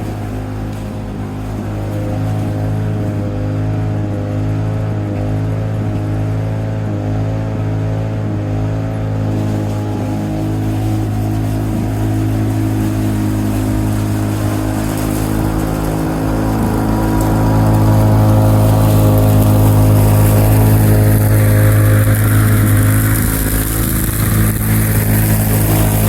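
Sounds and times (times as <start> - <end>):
two-stroke lawn mower engine running: 0.0 - 26.0.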